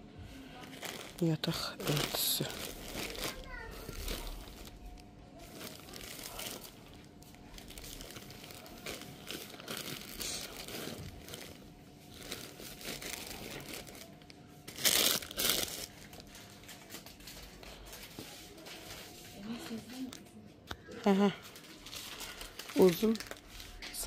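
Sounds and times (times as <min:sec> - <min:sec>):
plastic packages crinkling: 0:00.5 - 0:20.2, 0:21.4 - 0:24.0.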